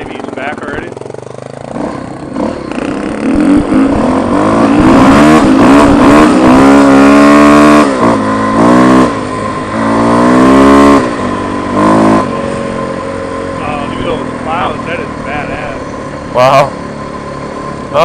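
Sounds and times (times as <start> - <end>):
dirt bike engine accelerating: 0.0 - 18.0.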